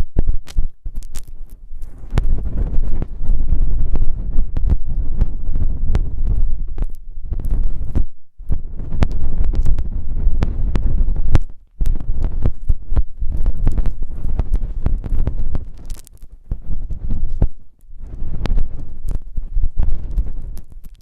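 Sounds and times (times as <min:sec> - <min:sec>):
hands rubbing on microphone: 0:00.0 - 0:21.0.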